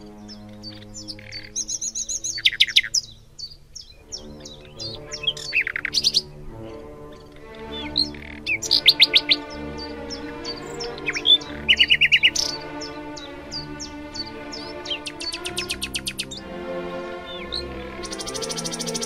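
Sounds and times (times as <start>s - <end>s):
birds chirping: 0.0s - 19.0s
soft music with held chords: 0.0s - 19.0s.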